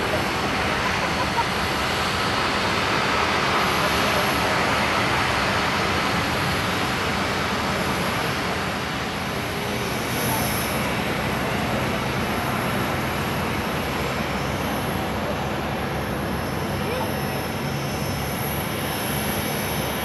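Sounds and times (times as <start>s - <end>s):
jet engines running at low power: 0.0s - 20.0s.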